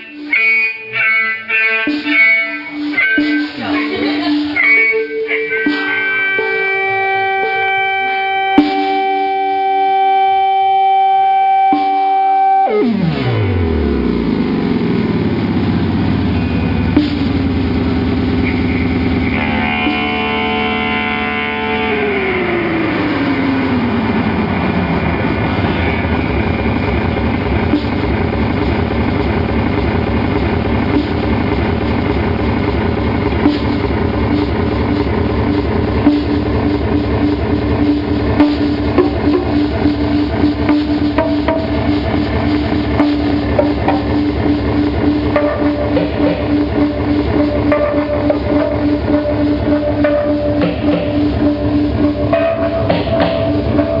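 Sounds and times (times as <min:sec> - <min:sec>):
distorted guitar noise drone: 0:00.0 - 0:54.0
electric guitar ringing notes: 0:00.0 - 0:54.0.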